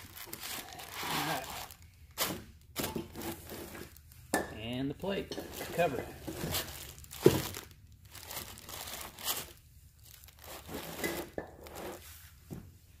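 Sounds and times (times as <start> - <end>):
plastic packing film crinkling: 0.0 - 4.2, 5.6 - 11.8.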